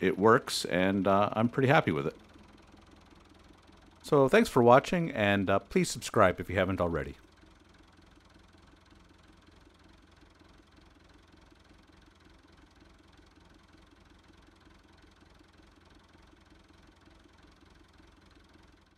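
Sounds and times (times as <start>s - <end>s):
faint pulsing engine hum: 0.0s - 18.9s.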